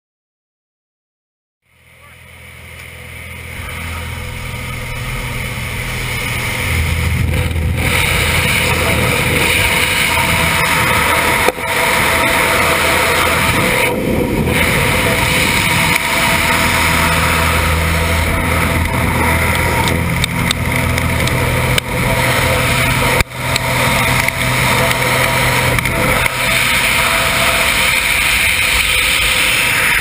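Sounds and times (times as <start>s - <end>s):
low steady drone: 1.6s - 30.0s
wind buffeting microphone: 3.3s - 30.0s.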